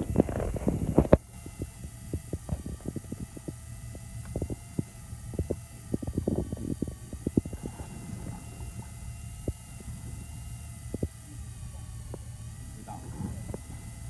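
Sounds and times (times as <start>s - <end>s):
electric fishing reel motor whine: 0.0s - 14.0s.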